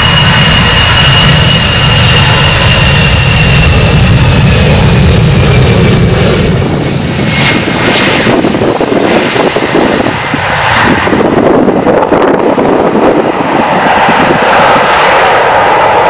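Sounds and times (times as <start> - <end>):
jet engines at take-off: 0.0 - 16.0.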